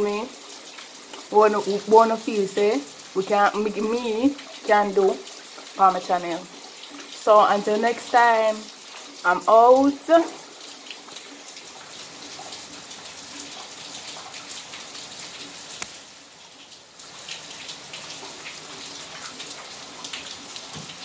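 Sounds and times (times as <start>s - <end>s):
drips ticking: 0.0s - 21.0s.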